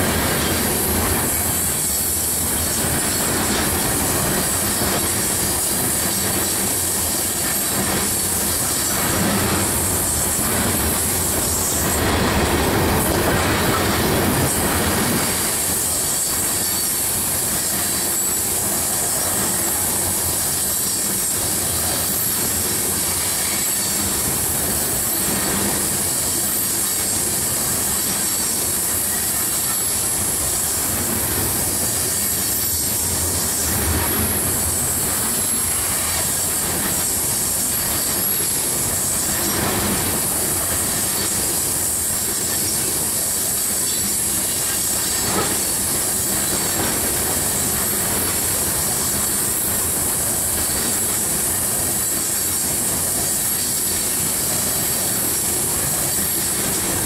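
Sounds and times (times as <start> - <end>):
steel train wheels rumbling on rail: 0.0 - 57.0.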